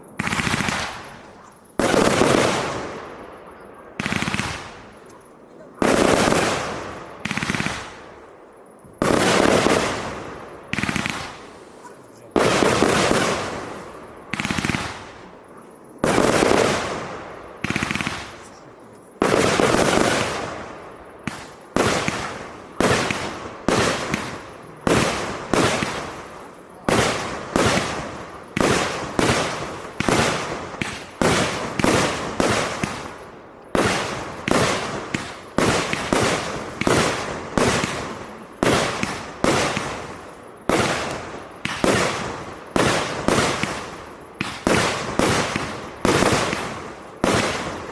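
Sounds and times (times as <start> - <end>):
fireworks bangs echoing: 0.0 - 47.9.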